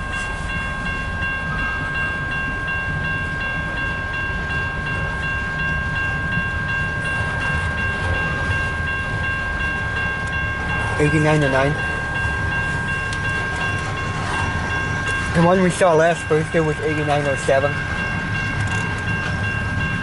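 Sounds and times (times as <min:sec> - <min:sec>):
crossing warning bell ringing: 0:00.0 - 0:20.0
freight train rumbling past: 0:00.0 - 0:20.0.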